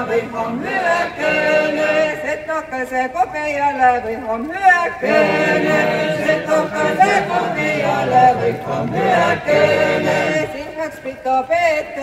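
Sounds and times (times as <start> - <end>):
choir chanting folk song: 0.0 - 3.0, 4.6 - 12.0.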